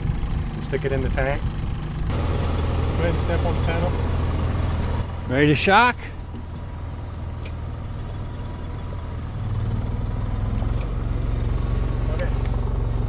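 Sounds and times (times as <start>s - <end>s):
low boat engine drone: 0.0s - 13.0s.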